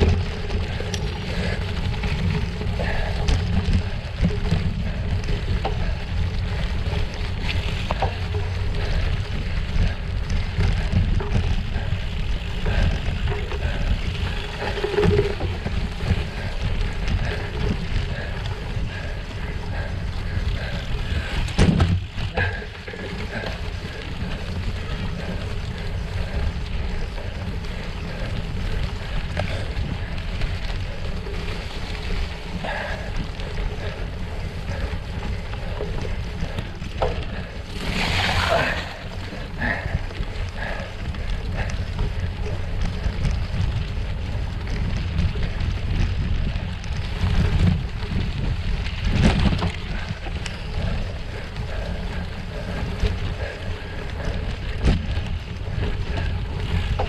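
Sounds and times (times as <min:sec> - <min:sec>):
bicycle tyres rumbling: 0:00.0 - 0:57.0
wind buffeting microphone: 0:00.0 - 0:57.0.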